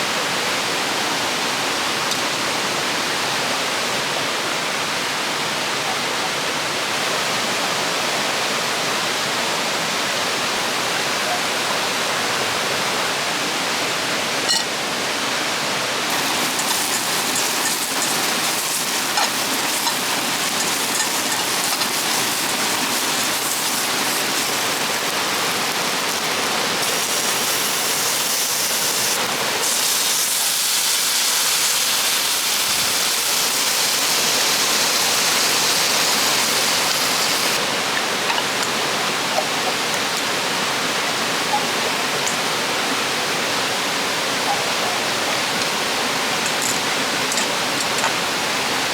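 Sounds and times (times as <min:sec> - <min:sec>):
river water rushing over rapids: 0:00.0 - 0:48.9.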